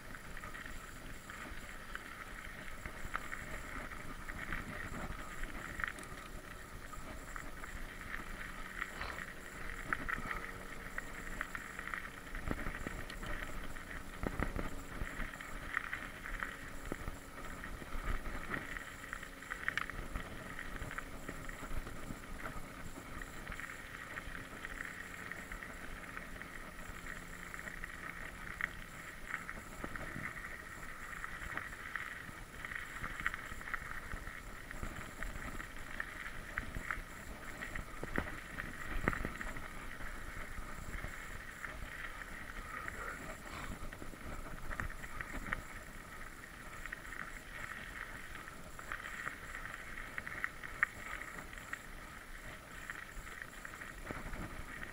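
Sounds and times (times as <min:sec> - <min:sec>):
bike tyres rolling on dirt: 0:00.0 - 0:54.9.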